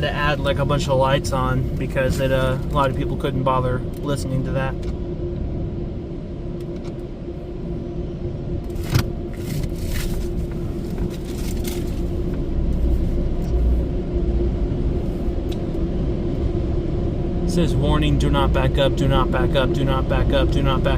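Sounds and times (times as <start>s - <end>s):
car wash rumble and hum: 0.0s - 20.9s.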